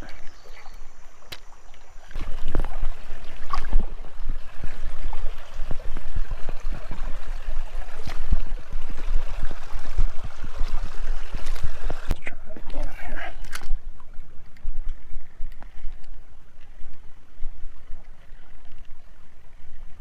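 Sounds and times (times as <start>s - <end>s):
creek water gurgling: 0.0s - 20.0s.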